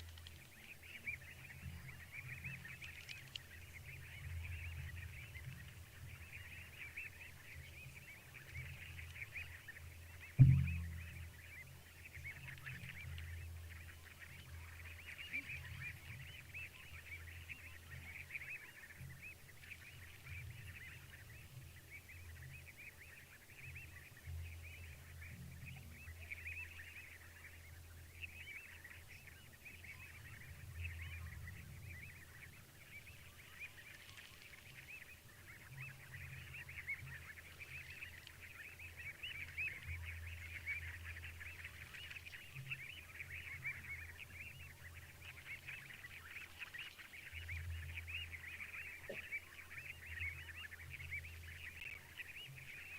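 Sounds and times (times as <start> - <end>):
chorus of frogs chirping: 0.0 - 52.9.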